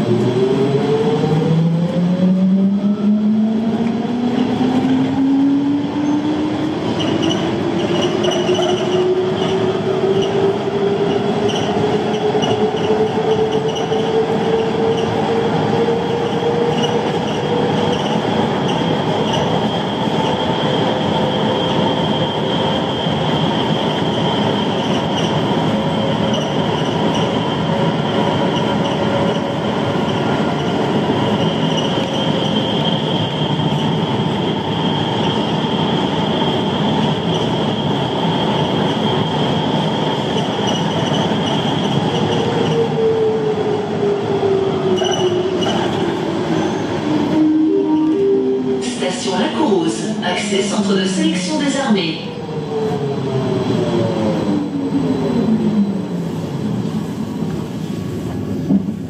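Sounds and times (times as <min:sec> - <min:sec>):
train rolling rumble: 0:00.0 - 0:59.0.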